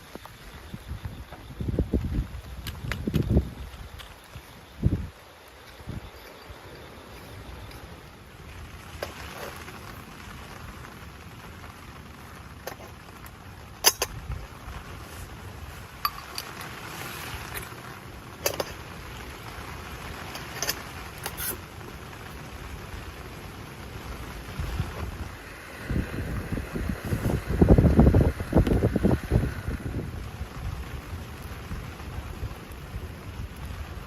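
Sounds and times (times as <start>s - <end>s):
low wind rumble: 0.0s - 34.0s
steady rain: 0.0s - 34.0s.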